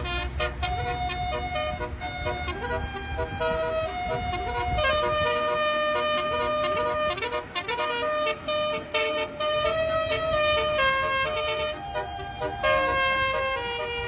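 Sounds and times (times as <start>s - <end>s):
bus horn playing a tune: 0.0s - 14.0s.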